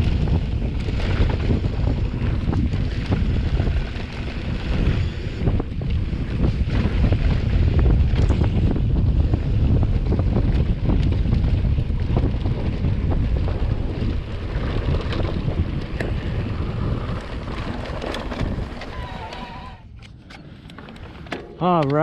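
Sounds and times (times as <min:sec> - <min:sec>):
tyres rumbling over dirt: 0:00.0 - 0:20.0
wind buffeting microphone: 0:00.0 - 0:22.0.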